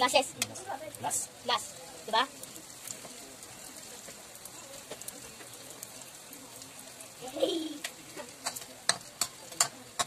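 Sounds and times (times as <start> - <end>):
dough sizzling in hot oil: 0.0 - 10.0.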